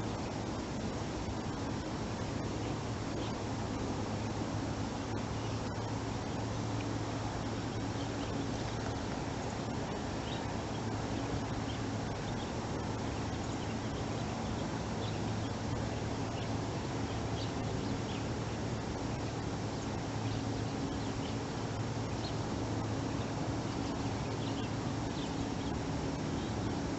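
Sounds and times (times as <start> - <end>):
background hiss: 0.0 - 26.9
low hum: 0.0 - 26.9
small birds chirping: 1.2 - 26.9.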